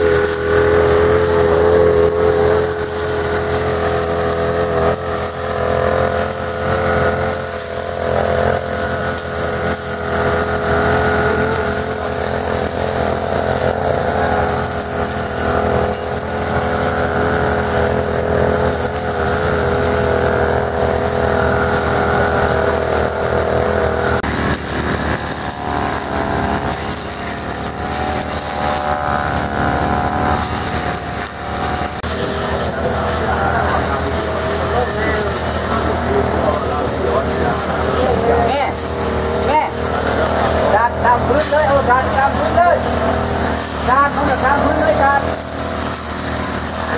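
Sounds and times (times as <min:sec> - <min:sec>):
brush cutter engines running: 0:00.0 - 0:46.9.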